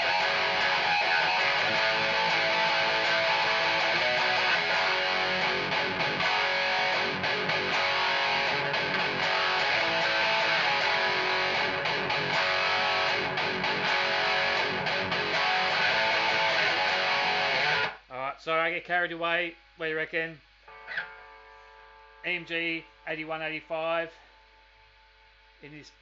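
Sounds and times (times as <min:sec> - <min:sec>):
distorted electric guitar riff: 0:00.0 - 0:18.1, 0:20.4 - 0:26.0.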